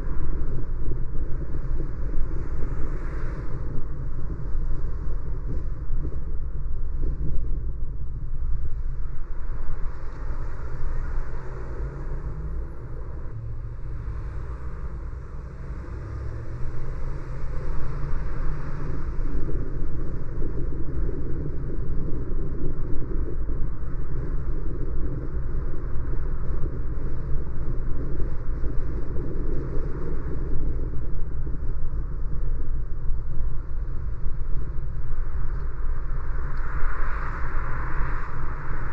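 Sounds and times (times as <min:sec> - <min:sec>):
road and engine noise inside car: 0:00.0 - 0:38.9.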